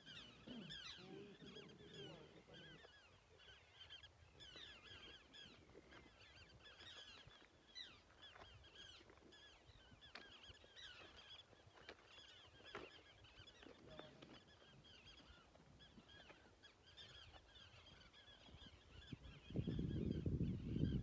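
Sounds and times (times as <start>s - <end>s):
birds chirping chorus: 0.0s - 21.0s.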